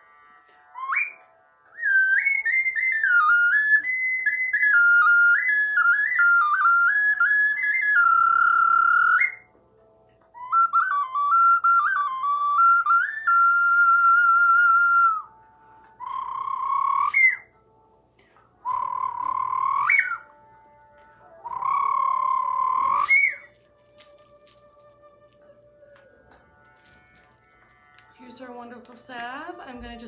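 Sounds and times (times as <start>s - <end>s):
slow flute melody: 0.0s - 28.6s.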